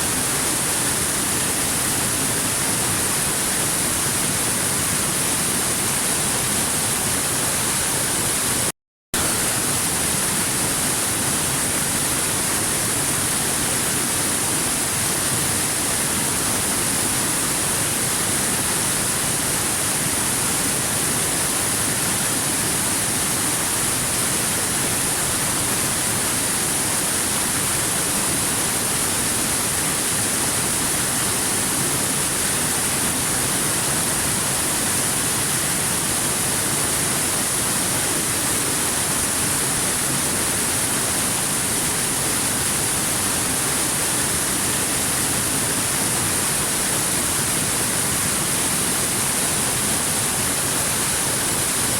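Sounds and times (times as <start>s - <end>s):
waterfall rushing: 9.2s - 51.9s.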